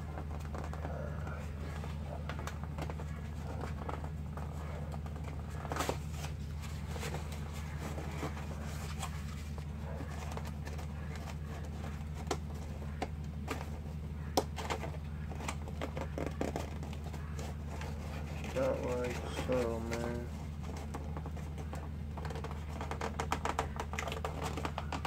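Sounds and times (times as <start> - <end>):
cardboard crackling by hand: 0.0 - 25.0
steady low hum: 0.0 - 25.0.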